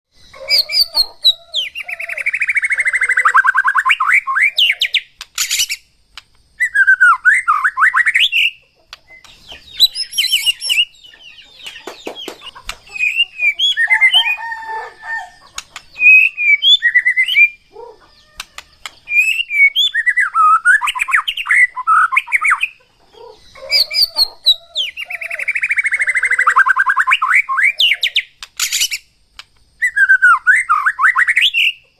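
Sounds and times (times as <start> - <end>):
bird singing with trills: 0.4 - 5.9, 6.6 - 29.1, 29.8 - 31.9.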